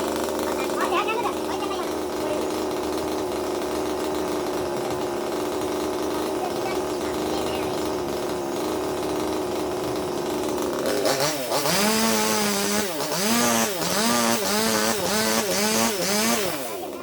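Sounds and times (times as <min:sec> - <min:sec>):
chainsaw running: 0:00.0 - 0:17.0.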